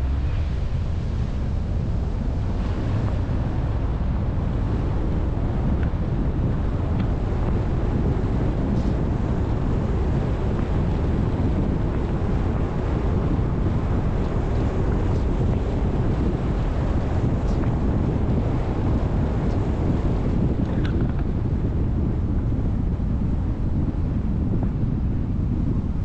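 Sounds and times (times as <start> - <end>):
tyre and road noise: 0.0 - 26.0
wind rushing over camera: 0.0 - 26.0.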